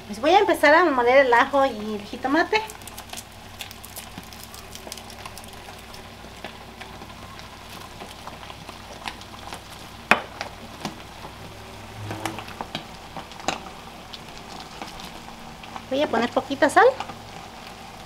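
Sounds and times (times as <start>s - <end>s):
food sizzling in pot: 0.0s - 18.0s.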